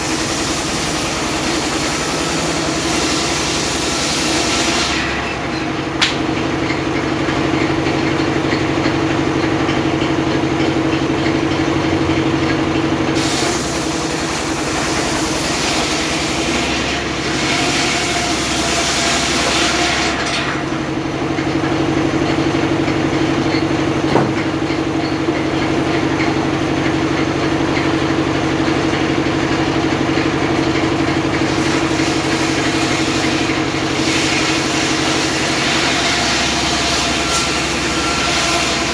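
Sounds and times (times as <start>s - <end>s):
sawmill engine humming: 0.0s - 38.9s.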